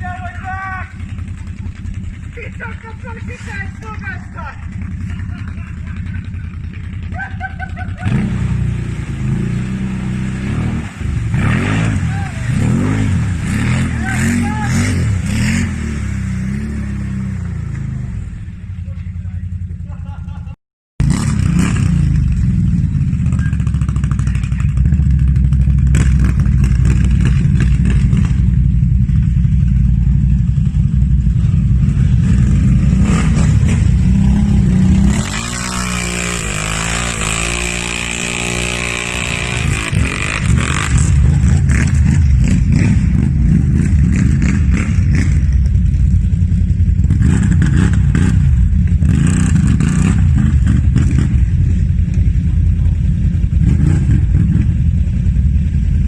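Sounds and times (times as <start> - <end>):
off-road vehicle engine revving: 0.0 - 20.0, 21.0 - 56.0.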